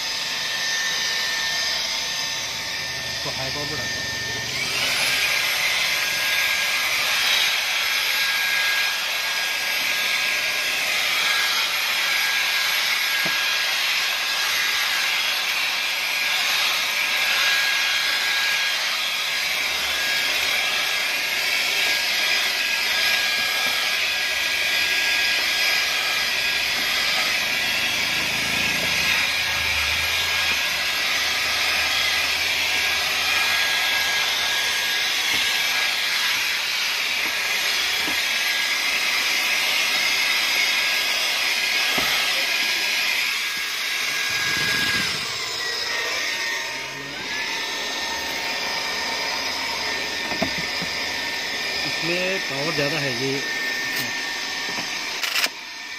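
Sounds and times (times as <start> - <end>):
vacuum cleaner suction: 0.0 - 55.9.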